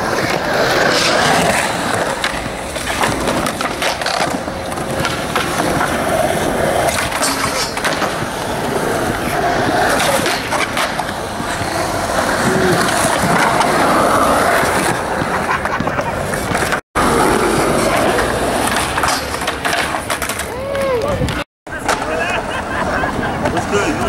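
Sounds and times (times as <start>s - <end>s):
skateboard clicks: 0.0s - 22.3s
skateboard wheels rolling on concrete: 0.0s - 24.0s.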